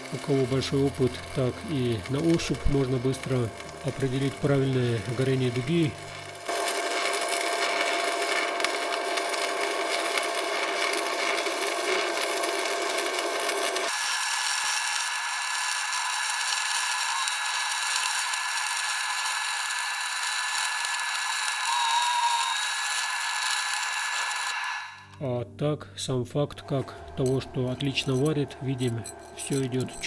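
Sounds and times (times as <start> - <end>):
welding arc crackling and sizzling: 0.0 - 25.2, 26.5 - 30.0.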